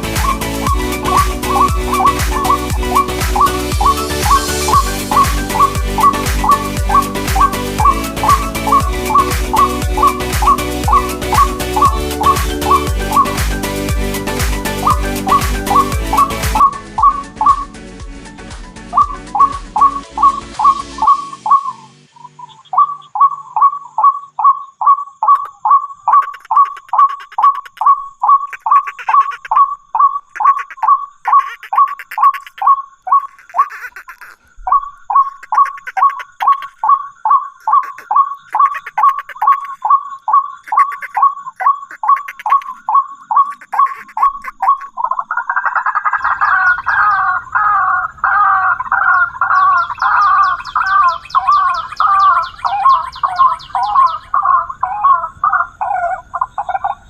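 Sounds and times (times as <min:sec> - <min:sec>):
waterhen calling: 0:00.0 - 0:17.9, 0:18.7 - 0:57.0.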